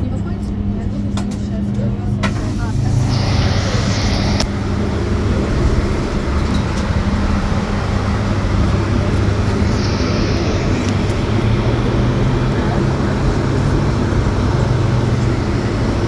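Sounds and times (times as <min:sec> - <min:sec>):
bus road and tyre noise: 0:00.0 - 0:16.0
low hum: 0:02.6 - 0:16.0.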